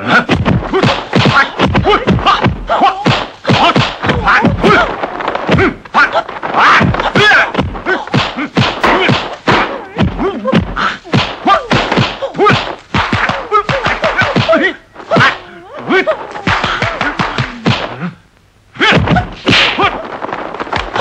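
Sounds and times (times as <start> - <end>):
punch and block impacts: 0.0 - 15.4, 16.4 - 18.1, 18.8 - 21.0
fighters shouting: 0.0 - 18.2, 18.8 - 20.1.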